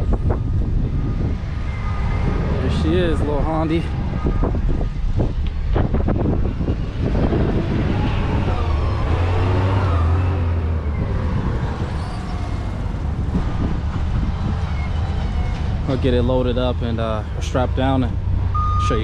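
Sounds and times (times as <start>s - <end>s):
heavy vehicle engine humming: 0.0s - 19.0s.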